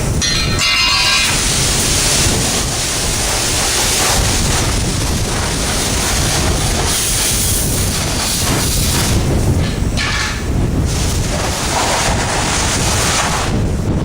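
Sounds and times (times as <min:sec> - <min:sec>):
pressure washer spray hiss: 0:00.0 - 0:13.9
wind buffeting microphone: 0:00.0 - 0:14.0.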